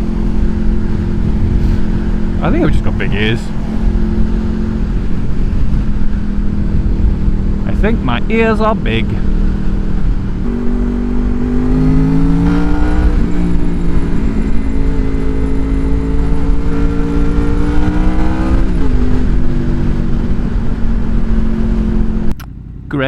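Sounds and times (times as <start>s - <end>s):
wind rumble on microphone: 0.0s - 22.4s
motorcycle engine running: 0.0s - 23.0s.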